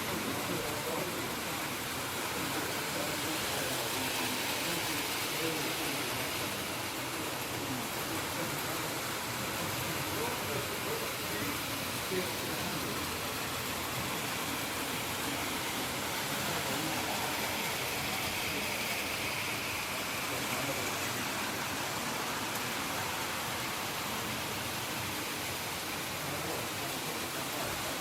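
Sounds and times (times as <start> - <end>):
faint voices of people: 0.0 - 28.0
model train running on track: 0.0 - 28.0.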